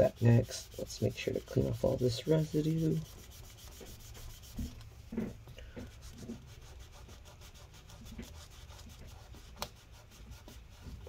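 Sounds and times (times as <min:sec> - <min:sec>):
paper towel scrubbing metal case: 0:00.0 - 0:11.0.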